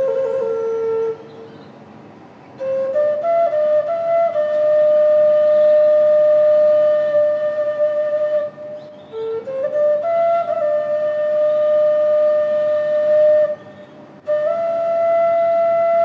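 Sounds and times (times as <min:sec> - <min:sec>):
flute playing slow melody: 0:00.0 - 0:01.8, 0:02.5 - 0:16.0.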